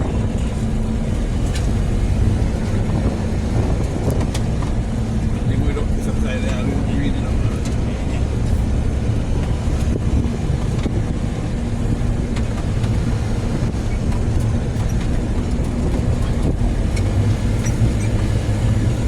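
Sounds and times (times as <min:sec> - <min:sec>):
car engine hum: 0:00.0 - 0:19.0
road noise: 0:00.0 - 0:19.0.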